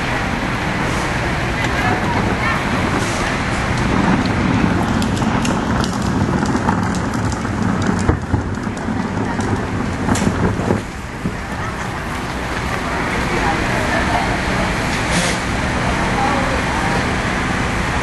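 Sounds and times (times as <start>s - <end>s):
low traffic rumble: 0.0s - 18.0s.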